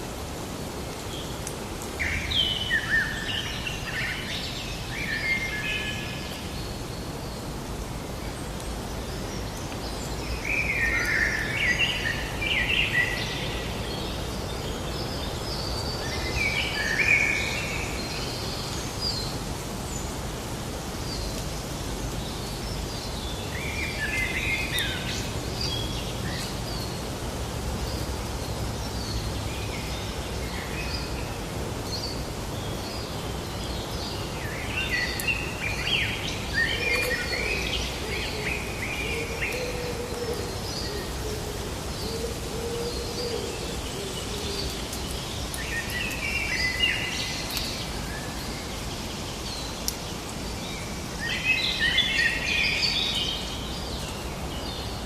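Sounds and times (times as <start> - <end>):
outdoor background hiss: 0.0 - 55.0
songbirds chirping: 0.1 - 55.0.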